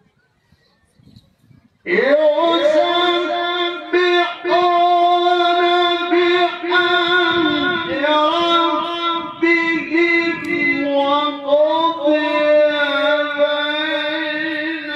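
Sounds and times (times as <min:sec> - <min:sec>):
man reciting melodically: 0:01.8 - 0:14.9.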